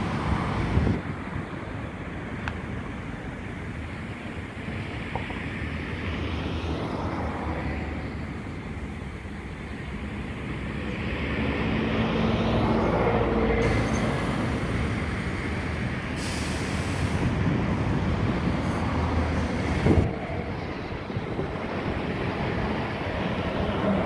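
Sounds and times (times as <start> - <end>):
jet engine rumble overhead: 0.0 - 24.0.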